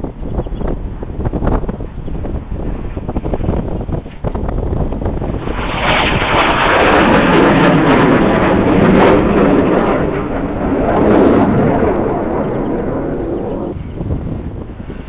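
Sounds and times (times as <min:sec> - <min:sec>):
jet aircraft passing over: 0:00.0 - 0:15.0.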